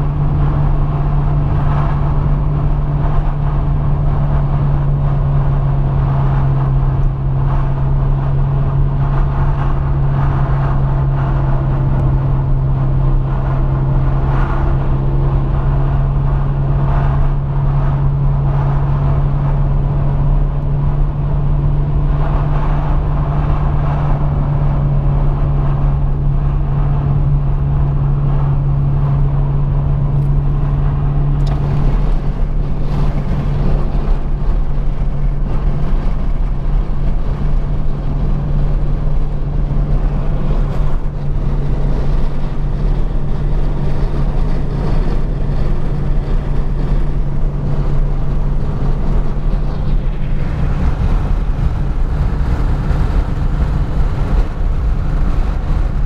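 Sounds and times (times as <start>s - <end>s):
car engine drone: 0.0s - 56.0s
road and tyre noise: 0.0s - 56.0s.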